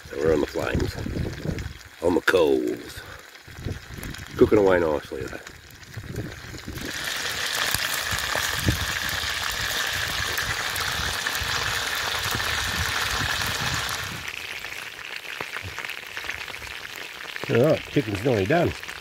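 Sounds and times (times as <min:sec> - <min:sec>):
chicken frying in hot oil: 0:00.0 - 0:19.0.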